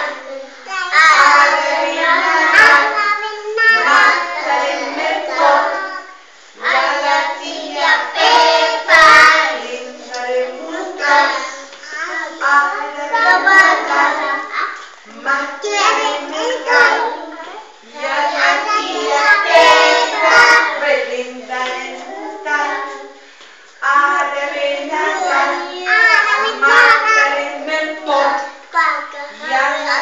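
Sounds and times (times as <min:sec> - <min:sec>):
children singing: 0:00.0 - 0:23.2, 0:23.8 - 0:30.0.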